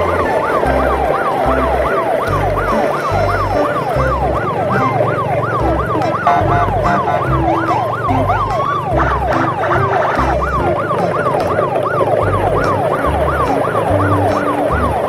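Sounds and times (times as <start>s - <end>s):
background music with bass: 0.0s - 15.0s
electronic siren wailing: 0.0s - 15.0s.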